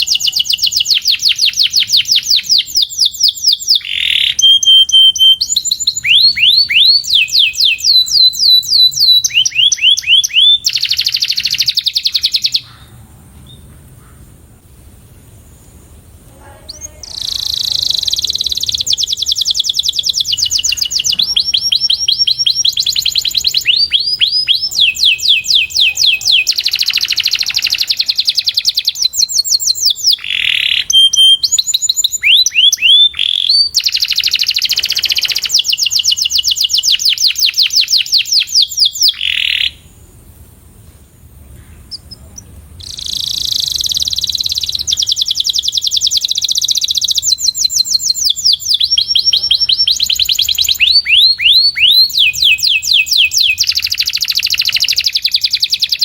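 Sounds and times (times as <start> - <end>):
canary singing trills: 0.0 - 14.2, 15.5 - 40.1, 41.5 - 56.0.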